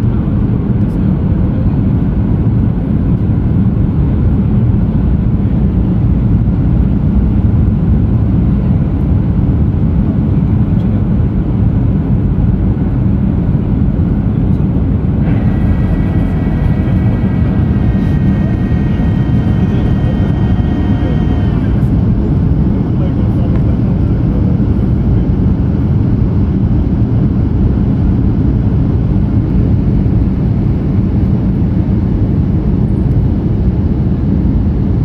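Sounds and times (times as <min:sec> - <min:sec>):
jet engine and airflow rushing: 0:00.0 - 0:35.0
steady whining tone: 0:00.0 - 0:35.0.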